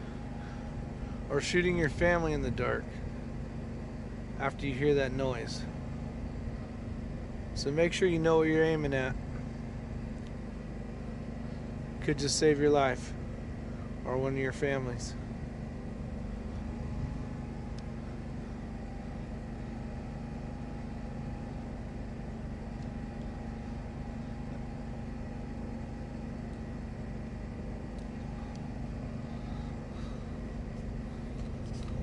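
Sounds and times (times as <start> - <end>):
motor humming: 0.0 - 32.0.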